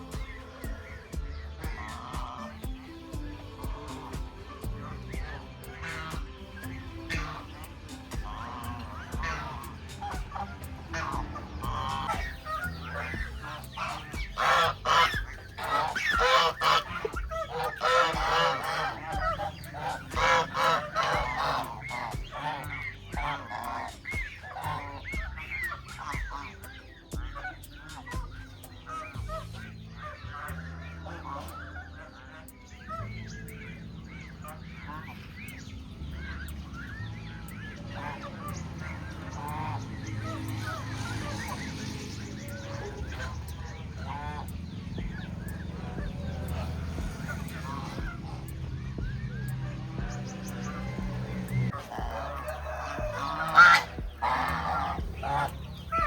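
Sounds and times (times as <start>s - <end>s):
geese honking: 0.0s - 56.0s
steady low rumble: 0.0s - 56.0s.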